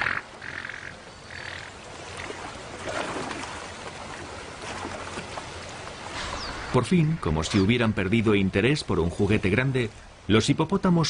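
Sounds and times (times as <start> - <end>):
river water splashing: 0.0 - 11.0.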